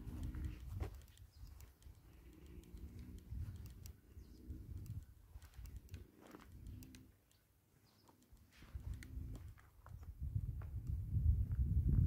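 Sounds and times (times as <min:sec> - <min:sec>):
wind rumble on microphone: 0:00.0 - 0:07.0, 0:08.6 - 0:12.0.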